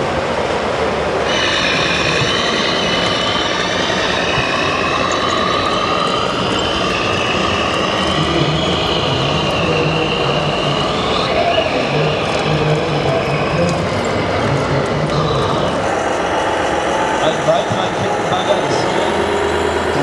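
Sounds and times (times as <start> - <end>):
electric motor and gear whine: 1.2 - 20.0.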